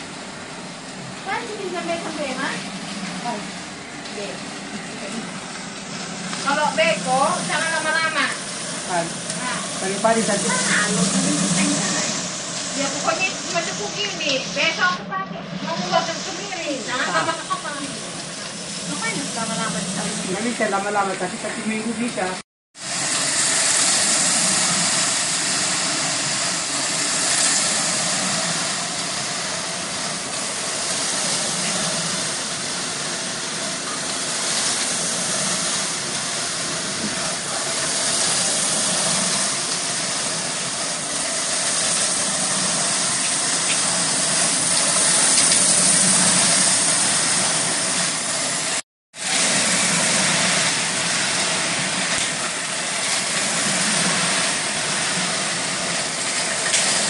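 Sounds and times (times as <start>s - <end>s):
gas burner hiss: 0.0s - 15.0s, 15.7s - 57.0s.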